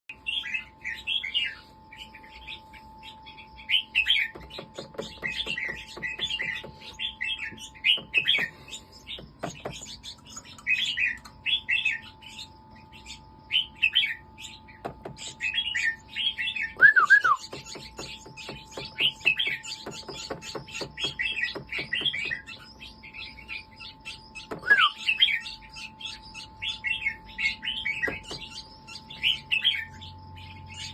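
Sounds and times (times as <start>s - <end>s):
bulbul singing warbling phrases: 2.3s - 30.9s.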